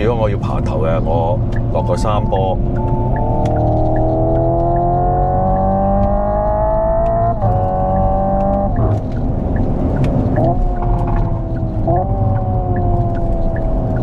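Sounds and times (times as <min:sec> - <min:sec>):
road and tyre rumble: 0:00.0 - 0:14.0
synthesised engine sound rising in pitch: 0:01.5 - 0:14.0.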